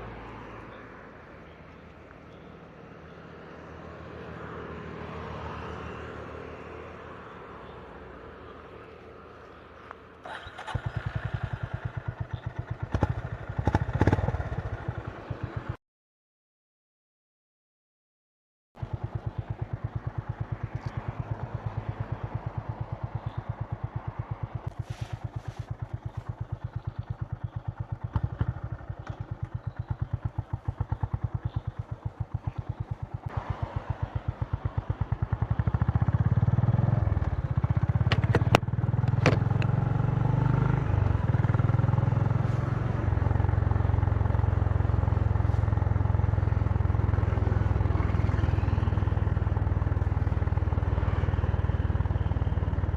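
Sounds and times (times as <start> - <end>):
motorcycle engine: 1.5 - 15.8, 18.8 - 52.9.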